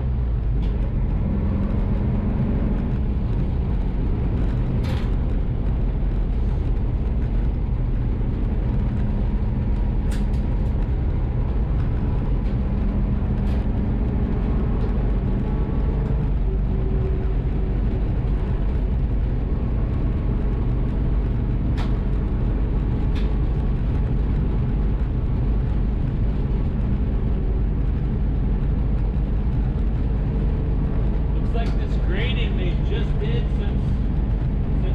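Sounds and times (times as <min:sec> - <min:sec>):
road noise: 0:00.0 - 0:34.9
van engine running: 0:00.0 - 0:34.9.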